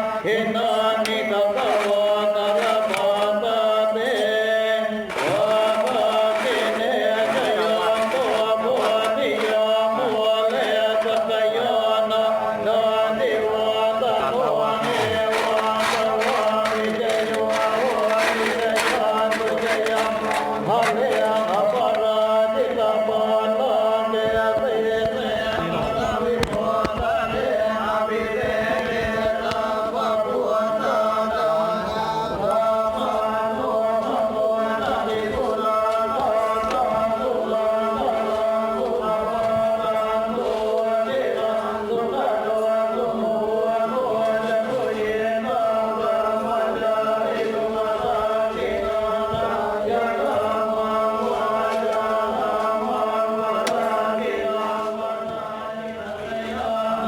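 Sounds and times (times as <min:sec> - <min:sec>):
voices chanting in monotone: 0:00.0 - 0:57.0.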